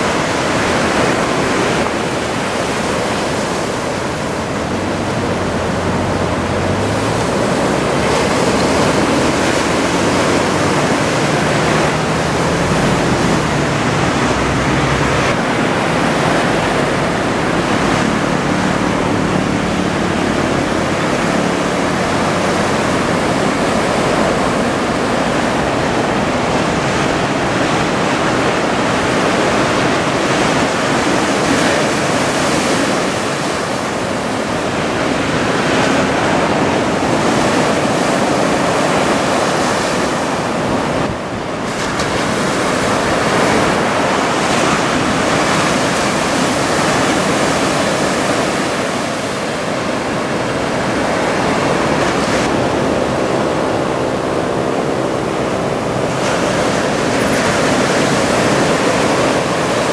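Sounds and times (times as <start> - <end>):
surf breaking on beach: 0.0 - 59.9.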